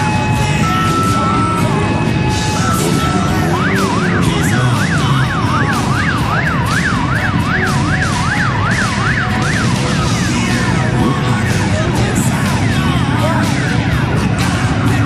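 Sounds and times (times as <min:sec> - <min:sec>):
siren yelping: 0:00.0 - 0:15.0
steady low rumble: 0:00.2 - 0:15.0.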